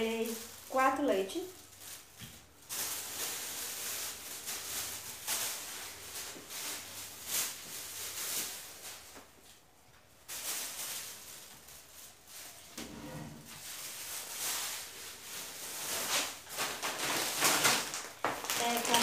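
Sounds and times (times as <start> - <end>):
plastic bags rustling: 0.0 - 19.0.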